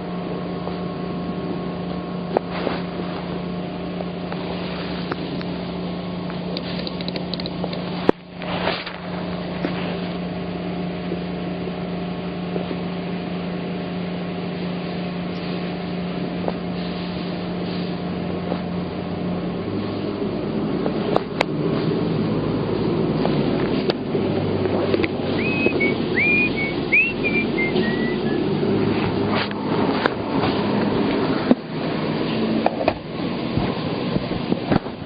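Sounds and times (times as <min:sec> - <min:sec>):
boat motor droning: 0:00.0 - 0:35.0.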